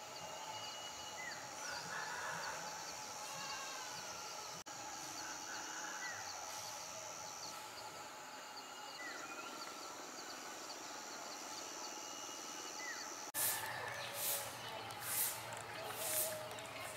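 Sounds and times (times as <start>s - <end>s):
steady high-pitched drone: 0.0s - 13.7s.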